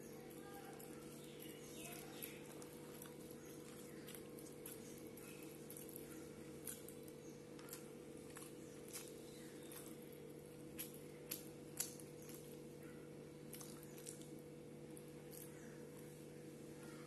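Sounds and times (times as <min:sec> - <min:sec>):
wet chewing and mouth smacks: 0:00.2 - 0:16.2.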